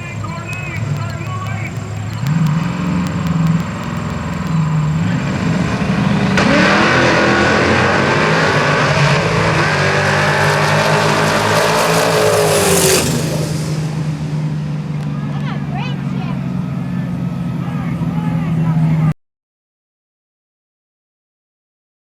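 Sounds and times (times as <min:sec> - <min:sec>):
racing car engines accelerating: 0:00.0 - 0:19.2.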